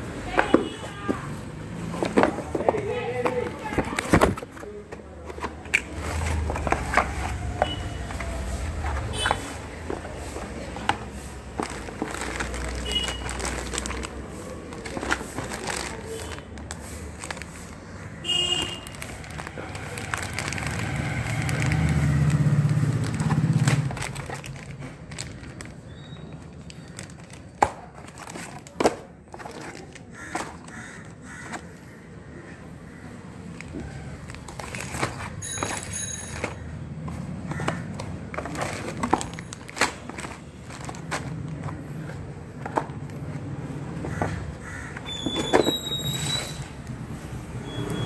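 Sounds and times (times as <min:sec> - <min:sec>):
plastic bags crinkling and rustling: 0:00.3 - 0:31.6, 0:33.5 - 0:44.3.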